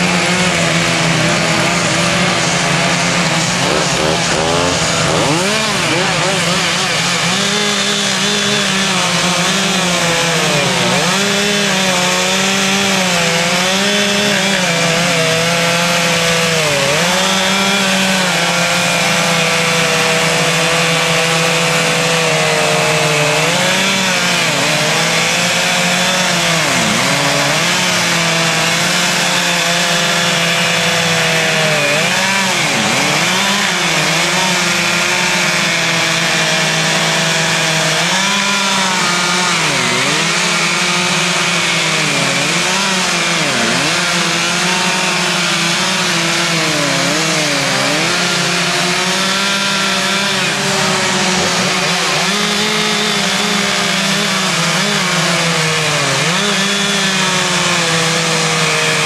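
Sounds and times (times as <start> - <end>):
chainsaws revving: 0.0 - 59.0.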